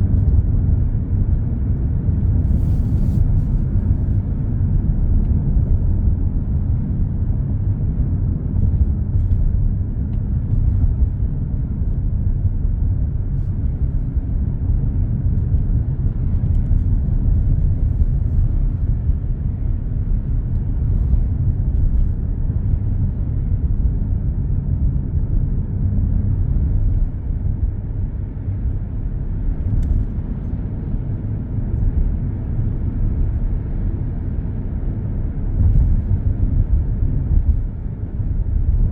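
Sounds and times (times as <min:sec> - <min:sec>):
car cruising low rumble: 0:00.0 - 0:38.9.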